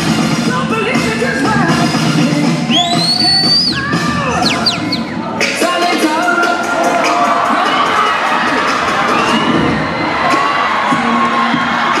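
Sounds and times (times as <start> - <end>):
crowd cheering and shouting: 0.0 - 12.0.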